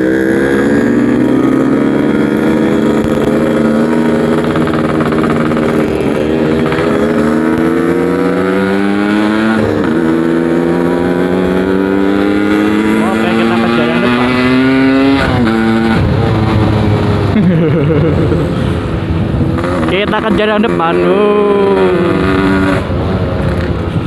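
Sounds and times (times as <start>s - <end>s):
two-stroke motorcycle accelerating: 0.0s - 24.0s.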